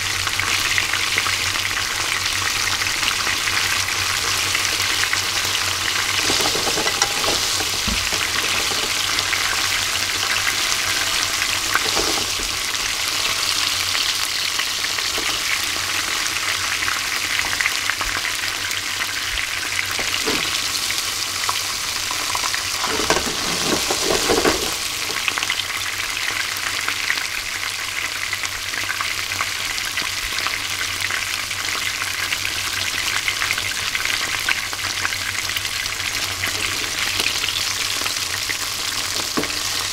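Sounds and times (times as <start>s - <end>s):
fish deep-frying in hot oil: 0.0s - 39.9s.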